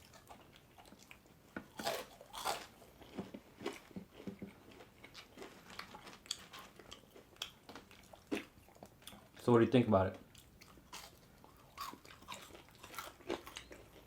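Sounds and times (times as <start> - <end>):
person chewing crispy fries: 0.0 - 9.4, 10.3 - 14.0.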